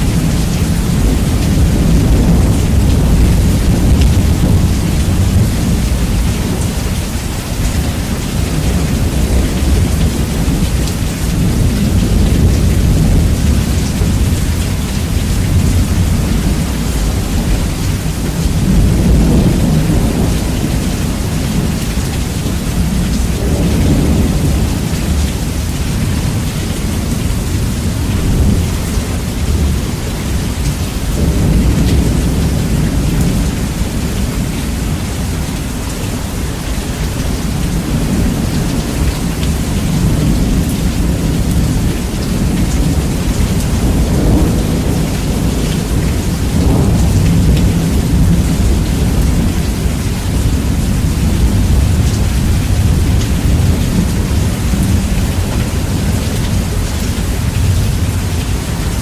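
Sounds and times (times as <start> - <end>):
heavy rain hissing: 0.0 - 59.0
rolling thunder: 0.0 - 59.0.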